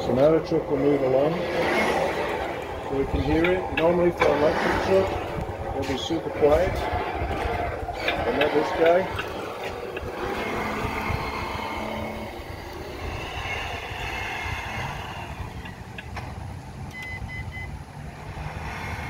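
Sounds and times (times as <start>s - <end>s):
simulated truck engine running: 0.0s - 19.0s.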